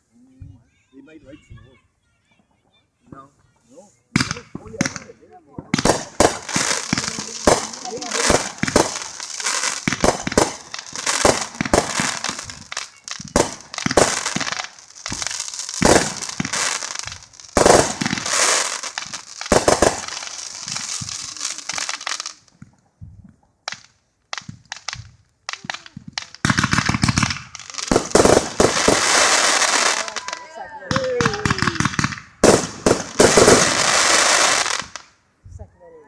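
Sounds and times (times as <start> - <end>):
fireworks bangs and crackling: 1.4 - 35.6.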